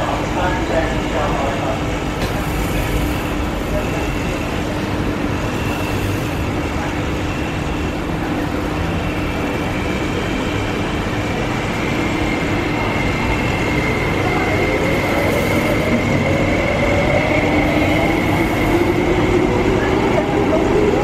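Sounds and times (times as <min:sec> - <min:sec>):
train whine pulling away: 0:00.0 - 0:21.0.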